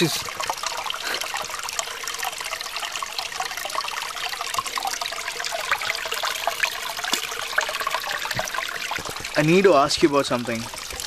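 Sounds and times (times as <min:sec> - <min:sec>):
water trickling and babbling: 0:00.0 - 0:11.0.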